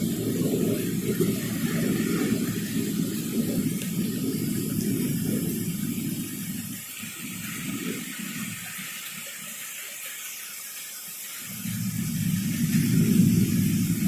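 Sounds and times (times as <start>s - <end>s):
thunder rumble: 0.0s - 9.8s, 11.3s - 14.0s
heavy rain hiss: 0.0s - 14.0s.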